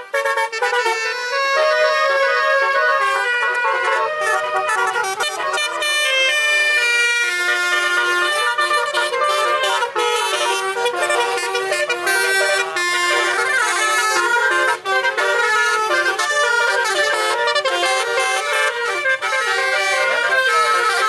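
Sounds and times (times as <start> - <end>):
musical air horn playing tune: 0.0 - 21.0.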